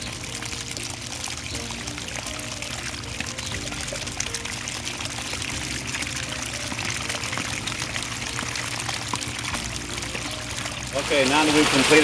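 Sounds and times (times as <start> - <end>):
water gushing into a basin: 0.0 - 12.0.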